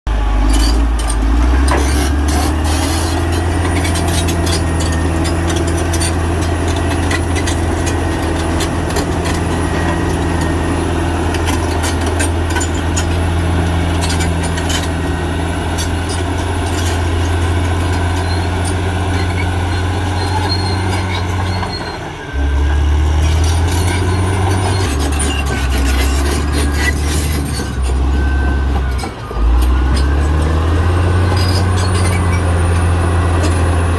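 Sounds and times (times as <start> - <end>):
bulldozer engine rumbling: 0.0 - 33.9
steel tracks clanking: 0.3 - 33.9.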